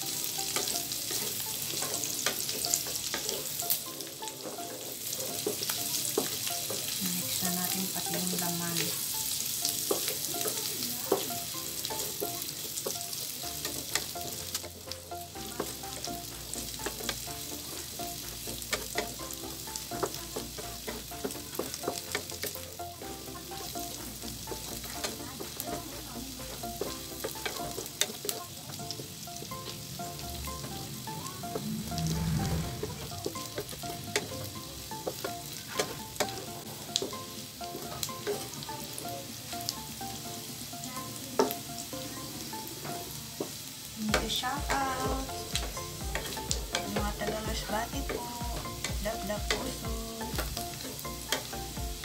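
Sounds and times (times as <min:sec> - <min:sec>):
meat and onion sizzling in oil: 0:00.0 - 0:52.0.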